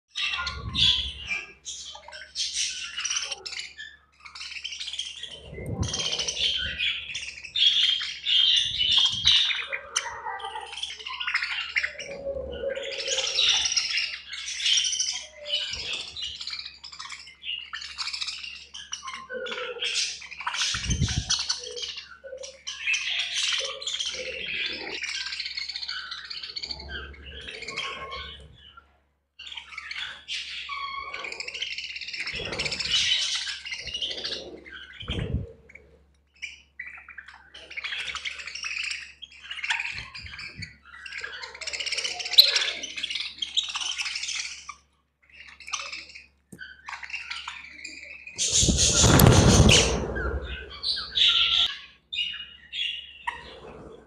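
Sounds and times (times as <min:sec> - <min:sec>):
budgerigars chattering and chirping: 0:00.1 - 0:54.0.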